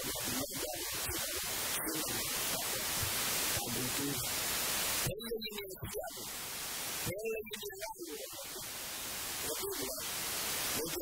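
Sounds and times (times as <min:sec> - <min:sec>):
man preaching into microphone: 0:00.0 - 0:04.4, 0:05.0 - 0:06.3, 0:07.0 - 0:08.7, 0:09.4 - 0:11.0
loud steady hiss: 0:00.0 - 0:11.0.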